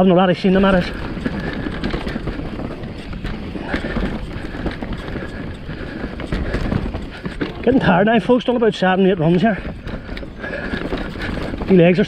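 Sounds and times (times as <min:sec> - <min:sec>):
bike knocks and rattles: 0:00.0 - 0:12.0
steady rushing noise: 0:00.0 - 0:12.0.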